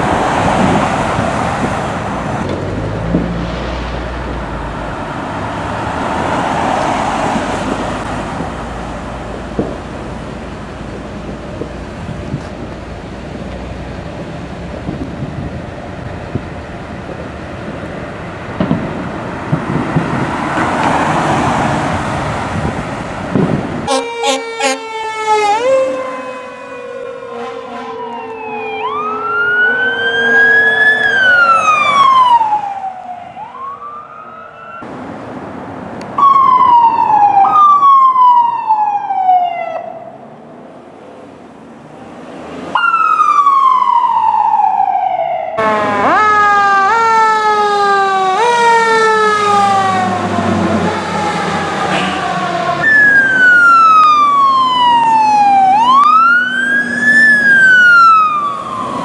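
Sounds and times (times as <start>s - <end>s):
emergency vehicle sirens: 0.0s - 40.9s, 41.8s - 59.0s.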